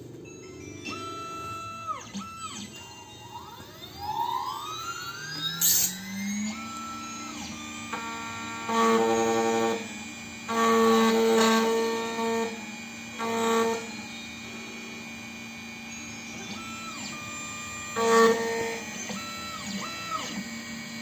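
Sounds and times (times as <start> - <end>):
key-cutting machine motor whining: 0.0 - 21.0.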